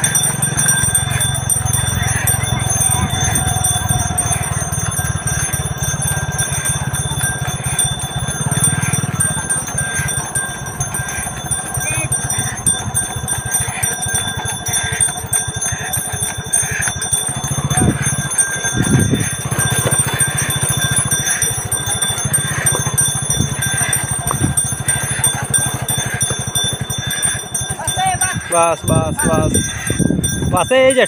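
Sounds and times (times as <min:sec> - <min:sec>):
bullocks trotting: 0:00.0 - 0:31.0
neck bells jingling: 0:00.0 - 0:31.0
wooden cart rumbling: 0:00.0 - 0:31.0.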